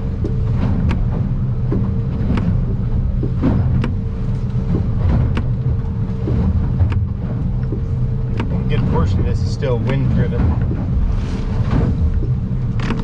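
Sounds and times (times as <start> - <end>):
hull knocks and rattles: 0.0 - 13.0
outboard engine running: 0.0 - 13.0.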